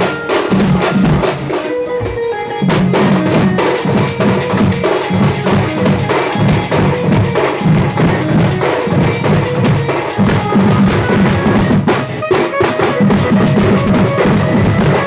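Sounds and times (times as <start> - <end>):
fast folk drumming: 0.0 - 15.0
folk melody of held notes: 0.0 - 15.0.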